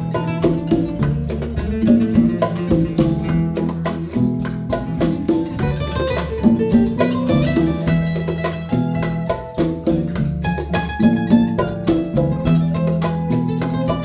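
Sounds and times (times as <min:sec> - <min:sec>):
bass line: 0:00.0 - 0:14.0
congas: 0:00.0 - 0:14.0
drum kit: 0:00.0 - 0:14.0
plucked guitars: 0:00.0 - 0:14.0.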